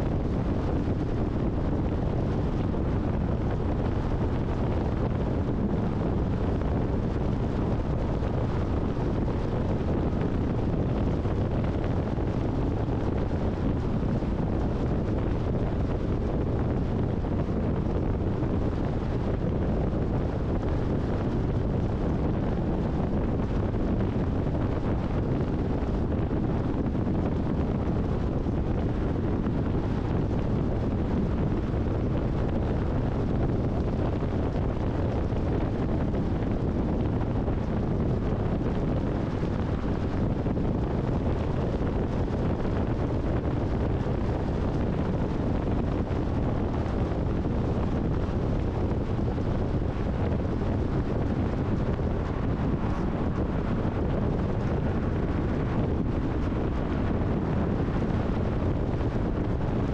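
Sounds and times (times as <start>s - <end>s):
tyre and wind road noise: 0.0s - 59.9s.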